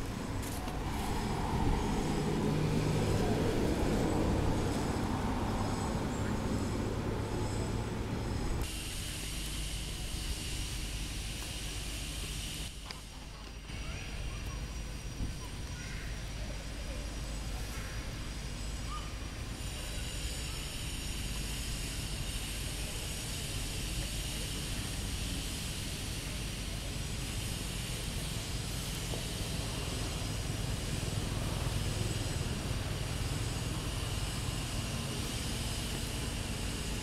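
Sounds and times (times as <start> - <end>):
hiss: 0.0 - 7.8, 8.6 - 37.0.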